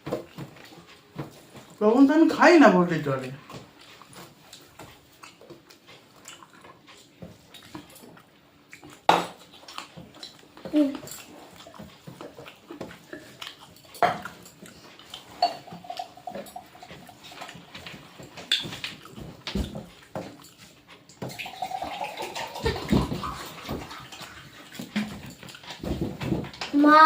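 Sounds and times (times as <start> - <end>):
chewing: 0.2 - 1.8, 3.1 - 26.0.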